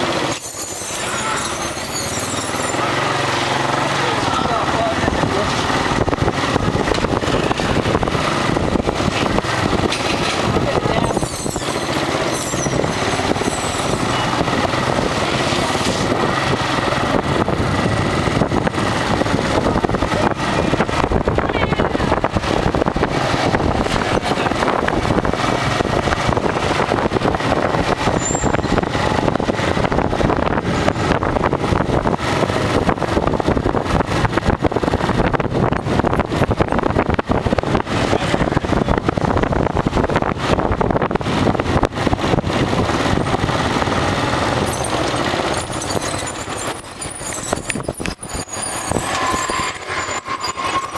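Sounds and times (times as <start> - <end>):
motorbike engine: 0.0 - 50.9
street traffic: 0.0 - 50.9
wind buffeting microphone: 5.0 - 11.2, 12.1 - 50.9.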